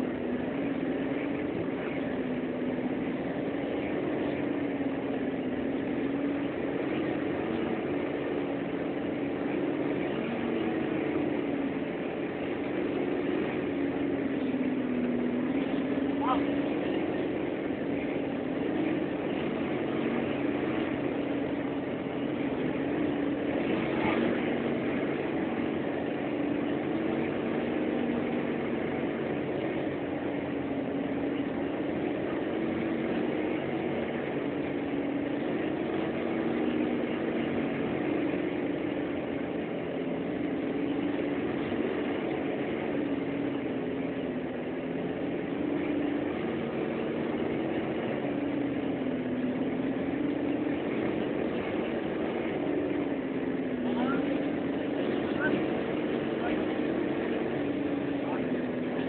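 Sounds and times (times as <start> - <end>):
bus engine droning: 0.0 - 59.0
road noise: 0.0 - 59.0.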